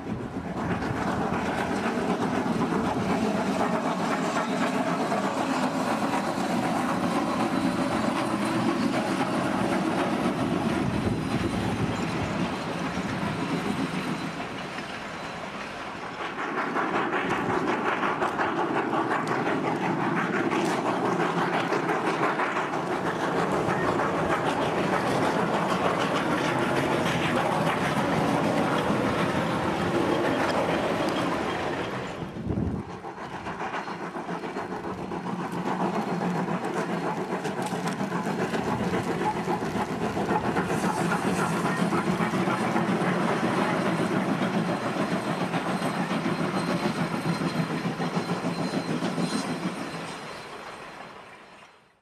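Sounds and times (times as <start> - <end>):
train wheels clicking over rail joints: 0.0 - 51.9
freight train rolling past: 0.0 - 52.0.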